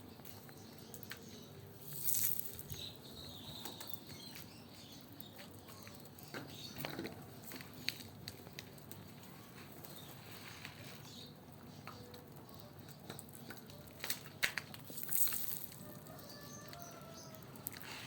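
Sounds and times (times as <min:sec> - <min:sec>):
pigeons tapping and scuffing: 0:00.0 - 0:18.0
pigeon rustle: 0:00.2 - 0:18.0.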